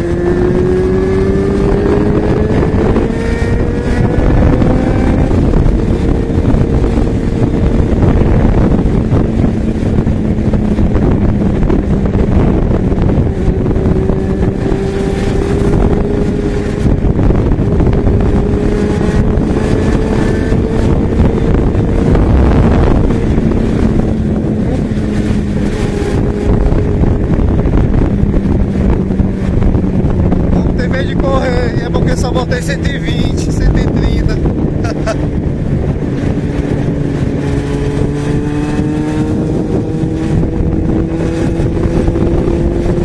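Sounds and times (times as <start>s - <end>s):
motorcycle engine running: 0.0s - 43.0s
wind on microphone: 0.0s - 43.0s.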